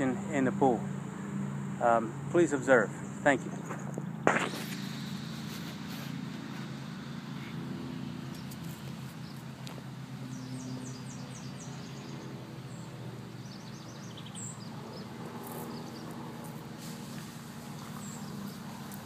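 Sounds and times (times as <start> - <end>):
steady low hum: 0.0 - 19.0
small birds chirping: 2.9 - 19.0.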